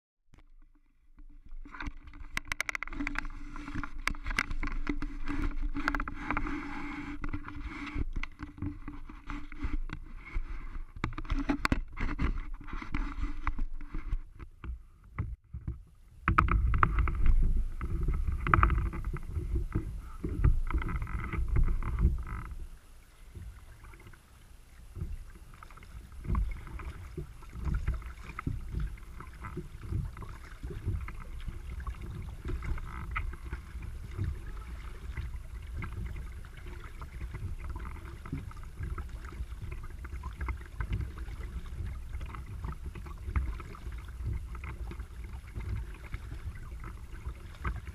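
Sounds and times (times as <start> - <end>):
kayak paddle splashing: 0.4 - 14.6, 16.2 - 47.9
water lapping along hull: 0.4 - 47.9.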